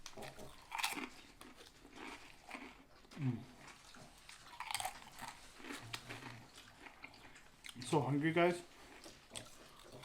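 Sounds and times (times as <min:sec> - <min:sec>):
chewing with wet mouth smacks: 0:00.0 - 0:08.0, 0:08.8 - 0:10.0.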